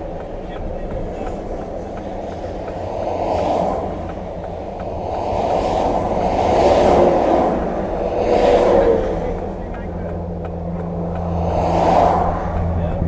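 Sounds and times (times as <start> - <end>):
road traffic rumble with tyre hiss: 0.0 - 13.0.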